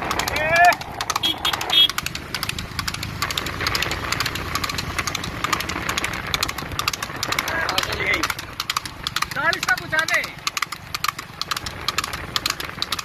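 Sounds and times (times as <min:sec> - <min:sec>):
hooves and cart clattering: 0:00.0 - 0:13.0
low steady rumble: 0:00.0 - 0:13.0.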